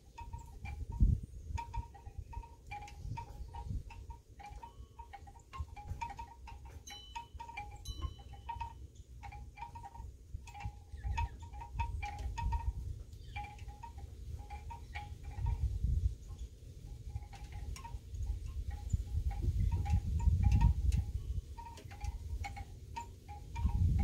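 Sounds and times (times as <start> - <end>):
wind rumble on microphone: 0.0 - 6.9, 9.6 - 24.0
wind chimes clinking: 0.0 - 24.0.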